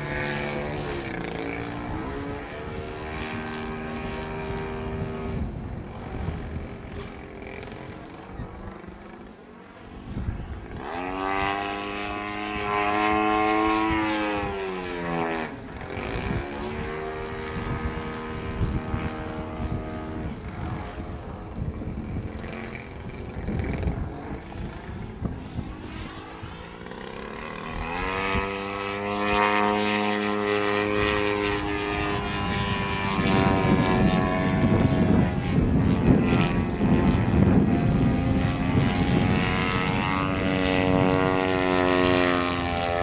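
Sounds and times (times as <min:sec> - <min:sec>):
model plane engine and propeller: 0:00.0 - 0:43.0.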